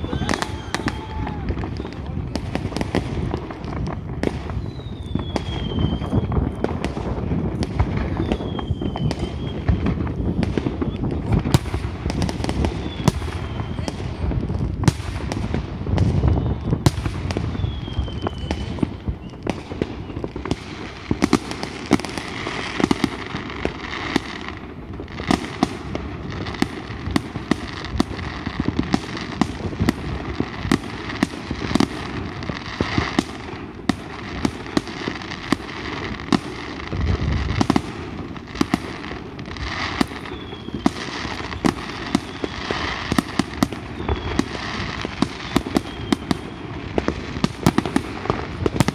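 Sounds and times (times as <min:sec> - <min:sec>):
deep firework booms: 0:00.0 - 0:48.9
fireworks bangs and crackling: 0:00.0 - 0:48.9.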